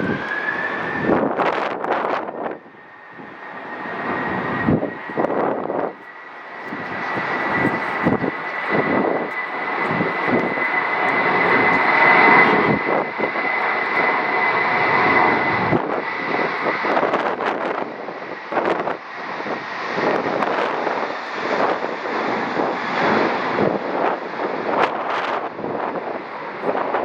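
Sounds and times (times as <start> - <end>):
jet engine roar with whine: 0.0 - 27.0.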